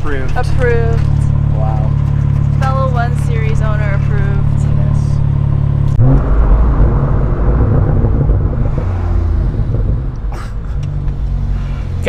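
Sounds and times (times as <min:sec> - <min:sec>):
car engine and exhaust pulling: 0:00.0 - 0:12.0.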